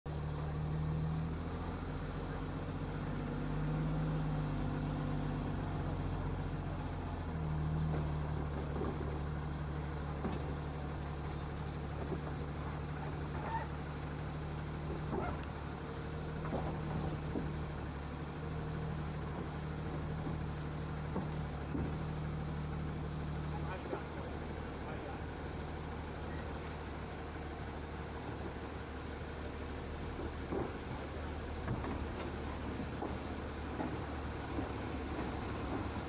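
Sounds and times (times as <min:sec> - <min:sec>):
garbage truck engine running: 0:00.1 - 0:36.0.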